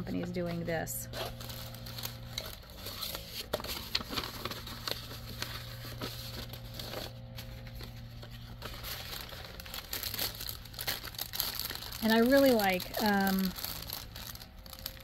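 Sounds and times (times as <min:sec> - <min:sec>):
plastic packaging crinkling: 0:00.0 - 0:15.0
steady low hum: 0:00.0 - 0:15.0.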